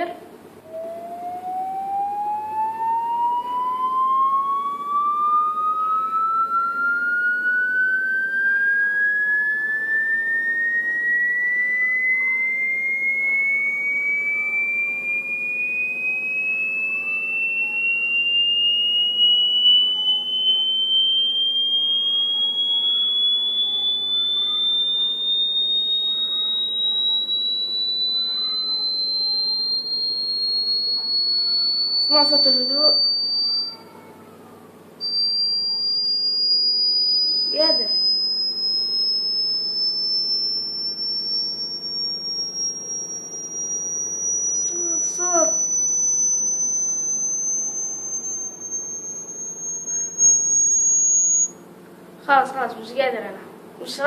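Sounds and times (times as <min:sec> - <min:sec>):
rising electronic test tone: 0:00.6 - 0:34.0, 0:35.0 - 0:52.6.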